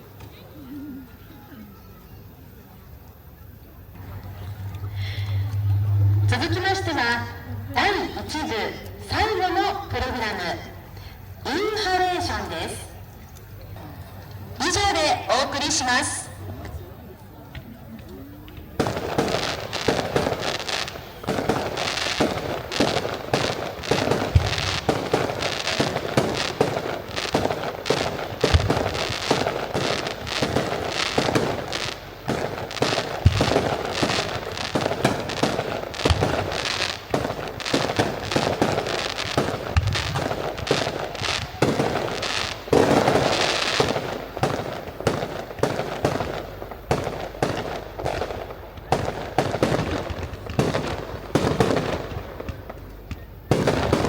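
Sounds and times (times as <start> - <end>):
fireworks crackling and popping: 0.0 - 0.5, 2.2 - 54.0
deep fireworks boom: 3.7 - 12.8, 17.6 - 54.0.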